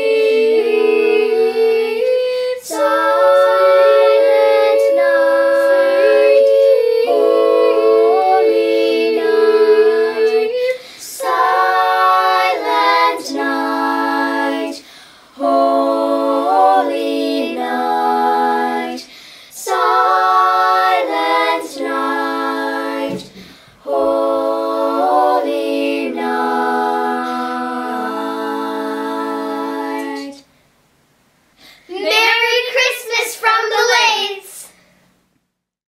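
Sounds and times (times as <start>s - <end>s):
group singing a cappella: 0.0s - 30.5s.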